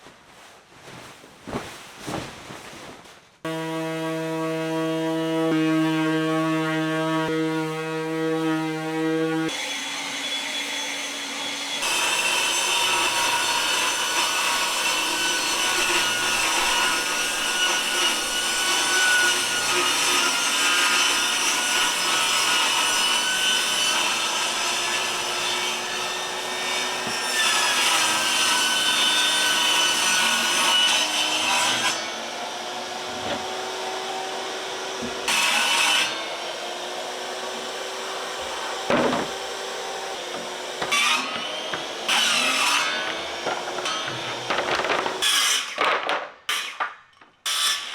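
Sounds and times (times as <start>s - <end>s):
power saw cutting wood: 3.5s - 45.8s.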